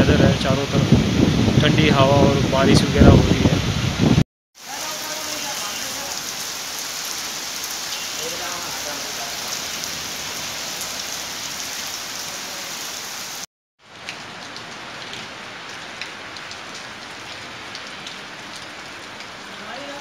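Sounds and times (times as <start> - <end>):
heavy rain on pavement: 0.0 - 20.0.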